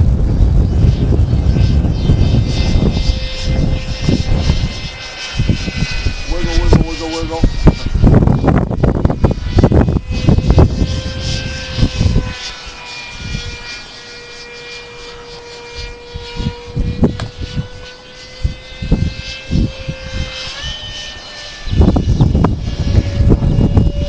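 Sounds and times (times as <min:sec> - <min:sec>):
electric ducted-fan jet whine: 0:00.0 - 0:24.0
wind thumping microphone: 0:00.0 - 0:24.0.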